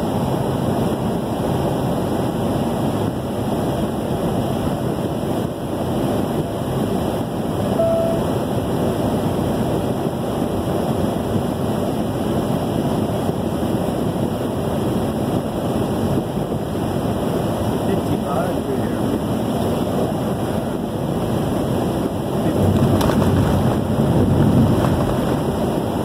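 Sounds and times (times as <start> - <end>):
road and wind noise inside vehicle: 0.0 - 26.0.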